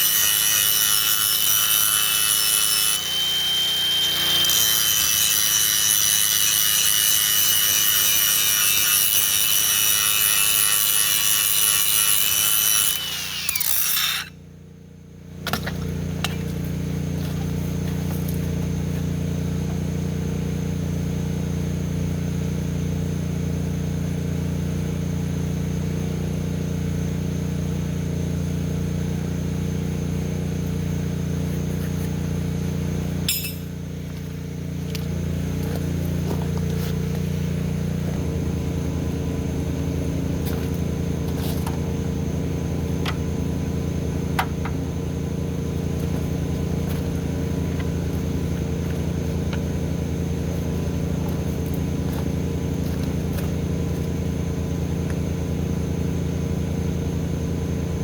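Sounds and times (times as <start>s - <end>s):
engine running: 9.2s - 58.0s.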